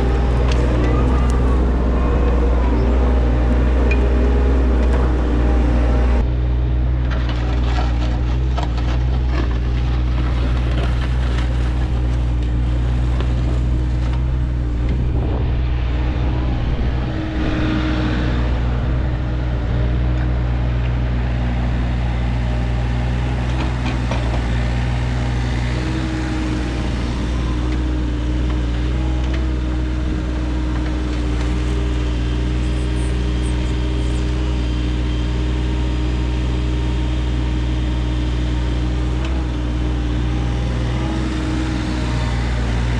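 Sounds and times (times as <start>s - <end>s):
landscaping equipment engine running: 0.0s - 42.9s.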